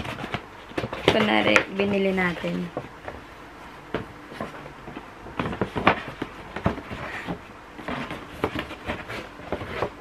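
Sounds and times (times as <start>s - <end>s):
paper and cardboard rustling: 0.0s - 3.3s, 4.0s - 10.0s.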